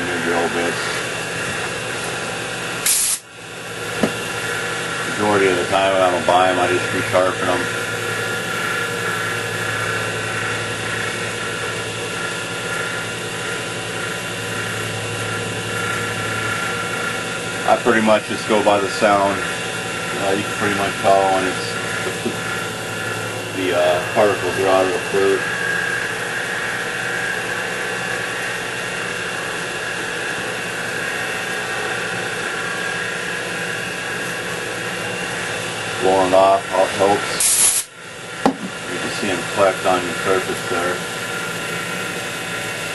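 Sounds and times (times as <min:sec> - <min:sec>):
mill spindle drilling aluminium: 0:00.0 - 0:42.9.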